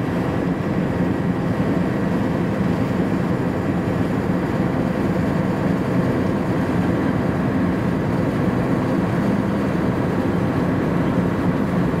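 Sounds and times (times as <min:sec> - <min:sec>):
ship diesel engine drone: 0:00.0 - 0:12.0.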